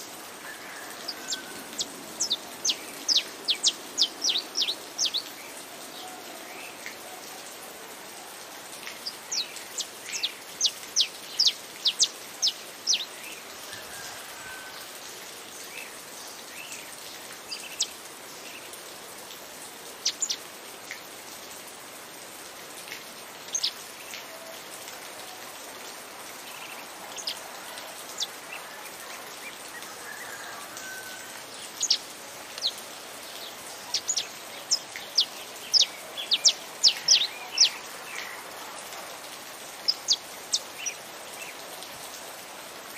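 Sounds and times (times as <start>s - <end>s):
rain hissing: 0.0s - 42.9s.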